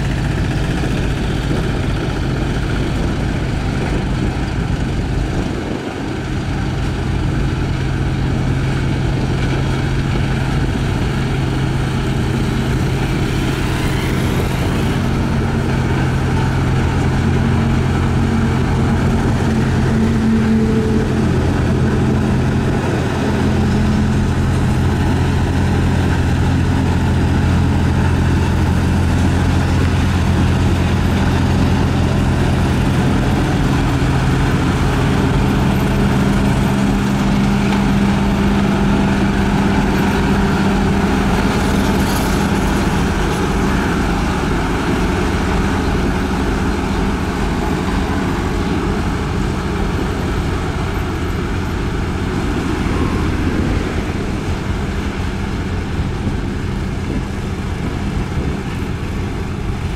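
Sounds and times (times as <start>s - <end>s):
road roller diesel engines: 0.0s - 59.9s.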